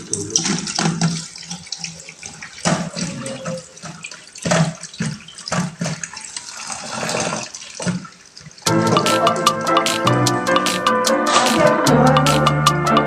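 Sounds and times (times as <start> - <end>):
water running from tap: 0.0 - 10.8.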